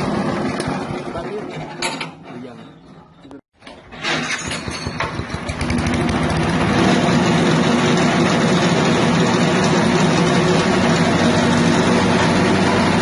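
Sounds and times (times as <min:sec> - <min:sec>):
petrol engine running: 0:00.0 - 0:01.8, 0:04.1 - 0:13.0.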